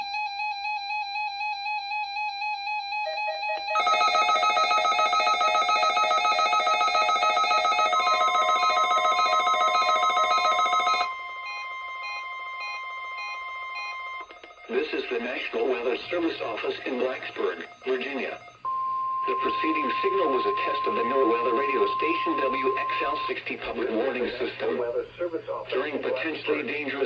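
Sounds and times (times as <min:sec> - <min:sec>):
radio receivers beeping alarms: 0:00.2 - 0:23.7
warbling alarm: 0:00.5 - 0:23.3
steady warning alarm tone: 0:01.3 - 0:23.4.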